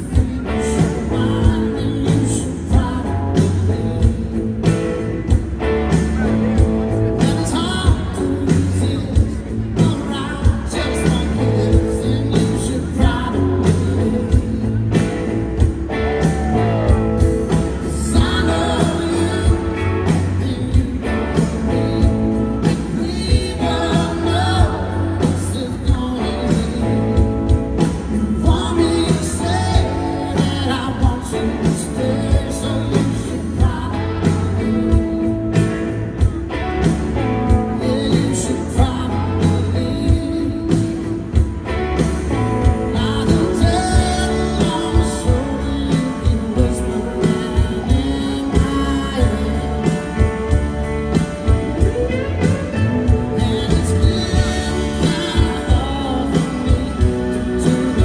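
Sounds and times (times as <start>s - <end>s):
live country band: 0.0s - 58.0s
man singing lead vocal: 0.0s - 58.0s.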